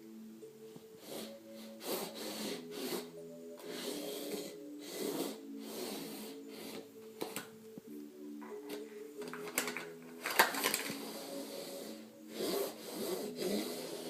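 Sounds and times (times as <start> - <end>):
electronic toy melody beeping: 0.0 - 14.0.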